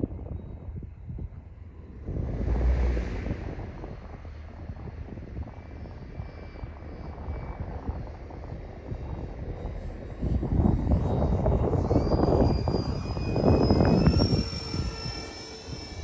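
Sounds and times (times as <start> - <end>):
model jet high whine: 0.0 - 16.0.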